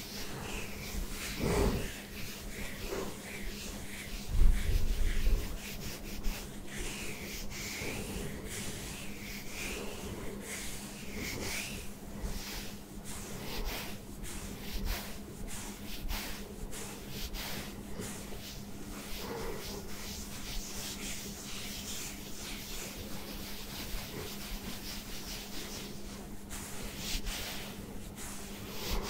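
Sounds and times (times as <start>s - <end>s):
hands rasping over short hair: 0.0s - 29.0s.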